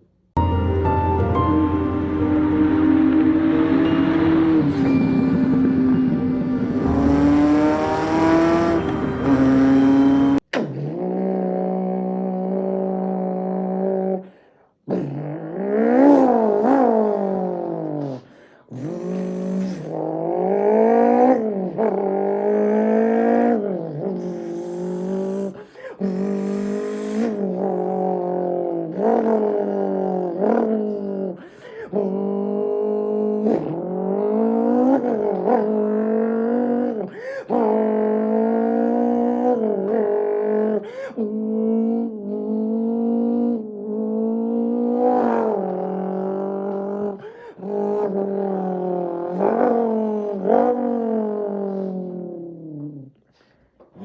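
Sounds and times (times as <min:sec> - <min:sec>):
man imitating engine with mouth: 0:07.6 - 0:53.2.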